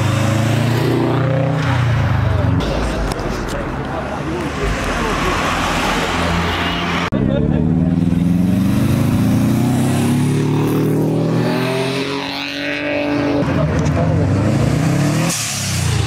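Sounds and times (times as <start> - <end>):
car engines revving and accelerating: 0.0 - 16.0.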